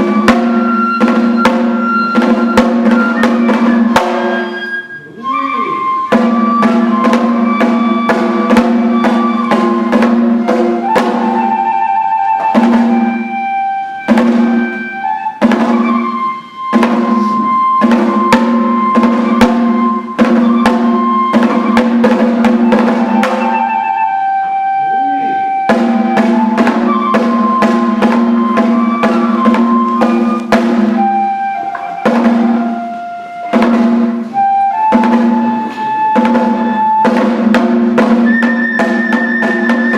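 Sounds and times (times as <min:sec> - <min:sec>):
drum strikes: 0:00.0 - 0:39.9
flute holding long notes: 0:00.0 - 0:39.9.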